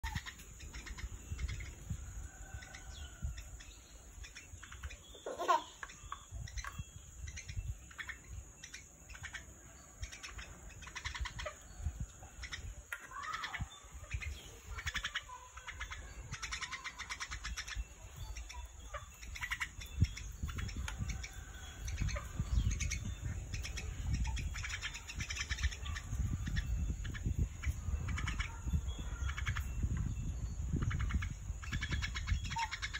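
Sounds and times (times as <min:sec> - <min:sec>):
mynas chirping and calling: 0:00.0 - 0:32.9.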